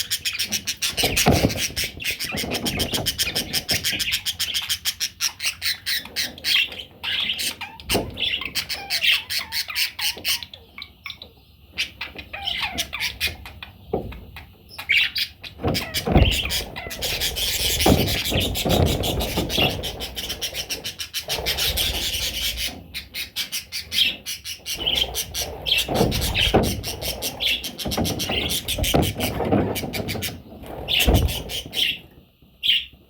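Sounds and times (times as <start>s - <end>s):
budgerigars chattering: 0.0s - 13.8s, 14.7s - 32.0s.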